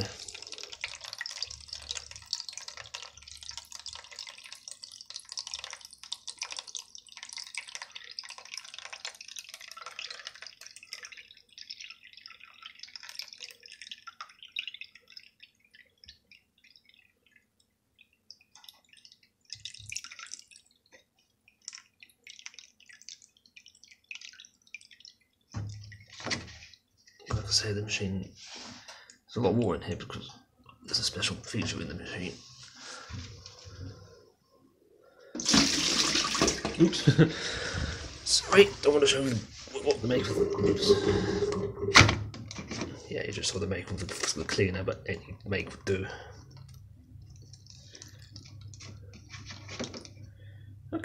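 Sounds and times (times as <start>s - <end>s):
water trickling into plastic tub: 0.0s - 34.3s, 35.1s - 51.0s.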